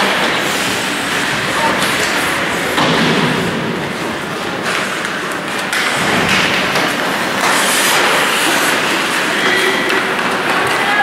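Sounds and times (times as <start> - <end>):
skates scraping ice: 0.0 - 11.0
sticks and puck knocking boards: 1.8 - 11.0.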